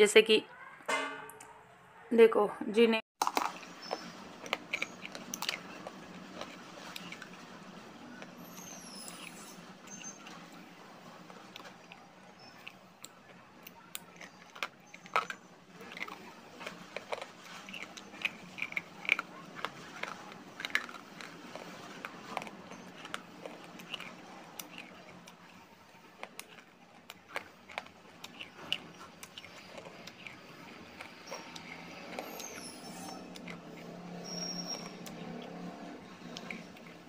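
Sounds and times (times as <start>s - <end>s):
crunching dried clay: 3.2s - 37.0s.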